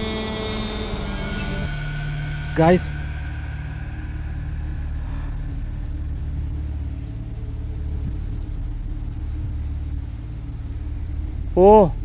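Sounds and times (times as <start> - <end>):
low rumbling hum: 0.0 - 12.0.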